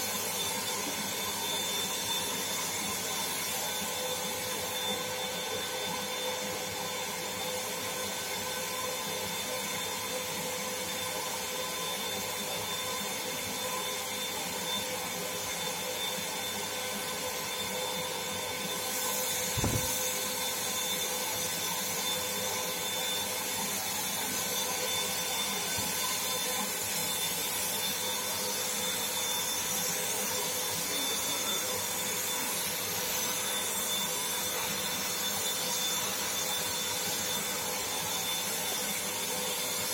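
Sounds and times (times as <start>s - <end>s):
paint spray gun whine: 0.0s - 39.9s.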